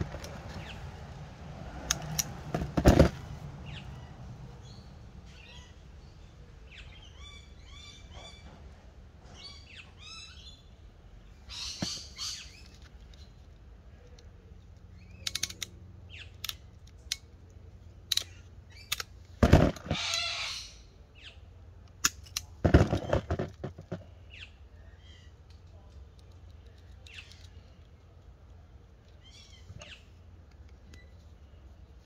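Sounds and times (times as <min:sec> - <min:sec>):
faint birds chirping: 0:00.0 - 0:01.3, 0:03.3 - 0:21.9, 0:22.8 - 0:32.0.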